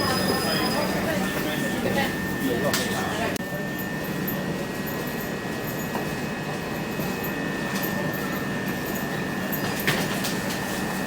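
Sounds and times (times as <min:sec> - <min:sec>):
electric train humming and whining: 0:00.0 - 0:11.0.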